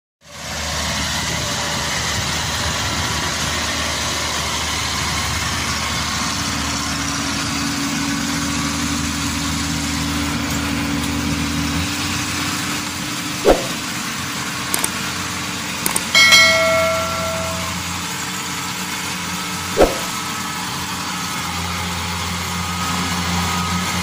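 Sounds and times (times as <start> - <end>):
diesel engine running: 0.3 - 24.0.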